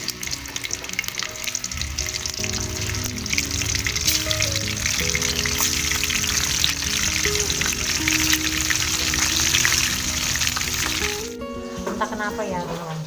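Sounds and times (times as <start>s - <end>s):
hot oil sizzling: 0.0s - 11.4s.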